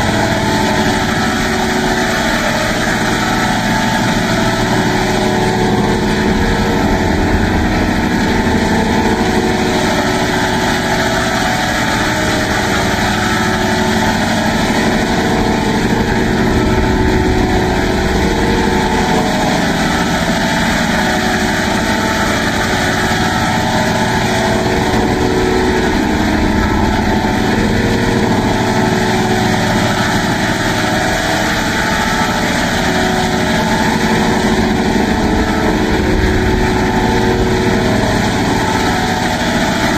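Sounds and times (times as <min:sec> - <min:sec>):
electronic buzzing drone: 0:00.0 - 0:39.9.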